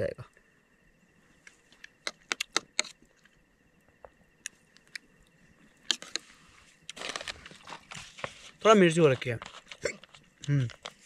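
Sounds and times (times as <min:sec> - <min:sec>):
crackly rustle: 0:01.1 - 0:11.0.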